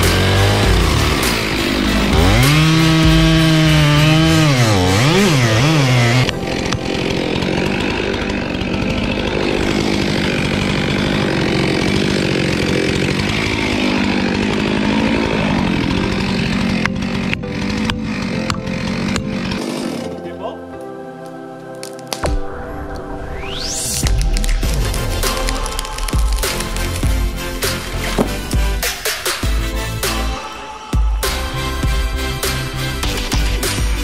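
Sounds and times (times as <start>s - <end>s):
chainsaw cutting log: 0.0s - 20.5s, 24.1s - 34.0s
chainsaw running steadily: 0.0s - 20.5s, 24.8s - 34.0s.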